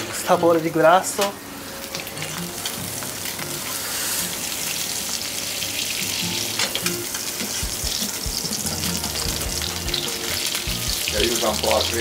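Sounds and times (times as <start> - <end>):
fish skin sizzling in butter: 1.6 - 12.0.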